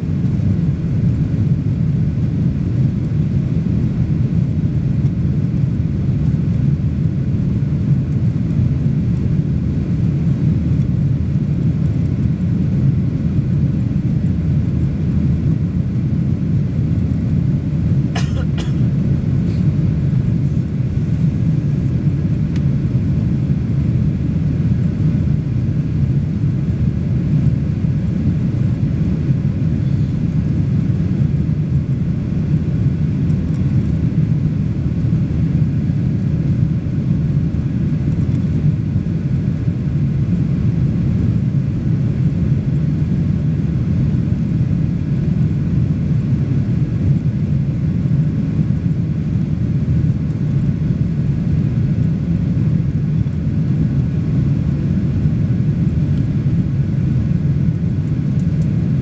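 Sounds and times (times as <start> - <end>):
airliner engines rumbling: 0.0 - 59.0.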